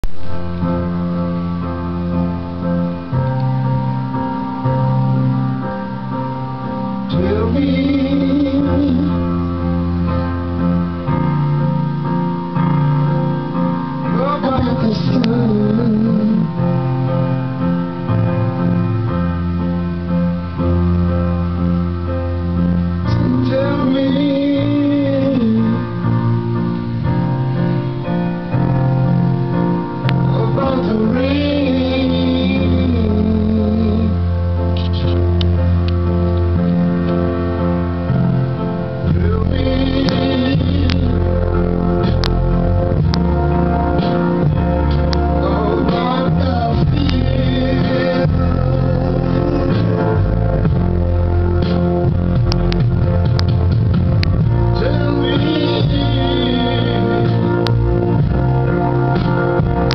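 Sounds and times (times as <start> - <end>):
keyboard backing music: 0.0 - 59.9.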